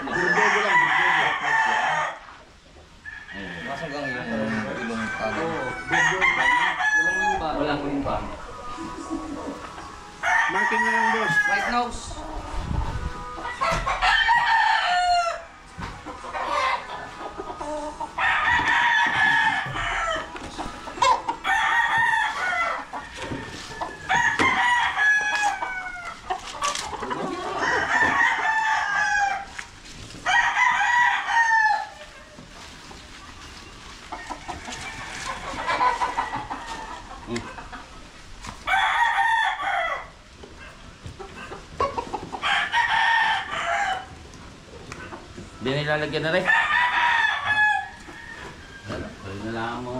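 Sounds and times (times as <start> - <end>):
roosters crowing: 0.0 - 49.9.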